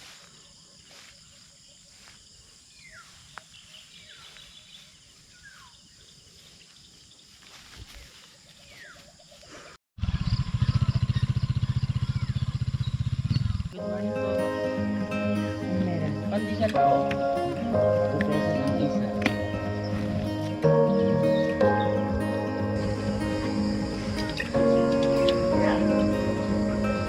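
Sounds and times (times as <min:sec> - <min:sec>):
high insect drone: 0:00.0 - 0:09.1, 0:13.5 - 0:27.0.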